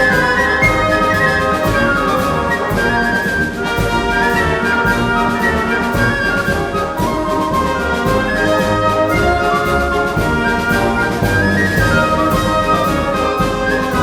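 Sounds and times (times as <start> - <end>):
orchestral brass music: 0.0 - 14.0.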